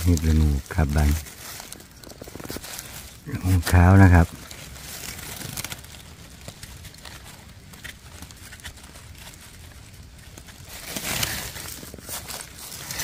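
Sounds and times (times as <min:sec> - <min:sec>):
rustling of dry leaves: 0:00.0 - 0:13.0.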